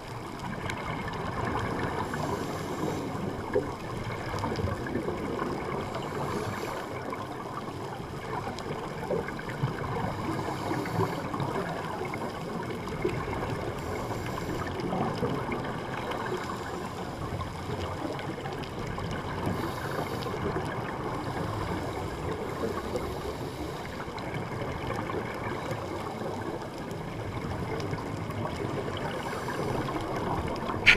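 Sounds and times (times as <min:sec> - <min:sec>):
muffled underwater rushing: 0:00.0 - 0:30.9.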